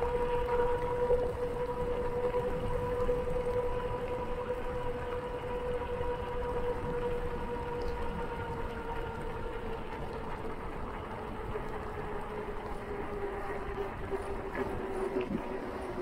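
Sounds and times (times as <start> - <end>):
bicycle tyres humming on asphalt: 0.0 - 16.0.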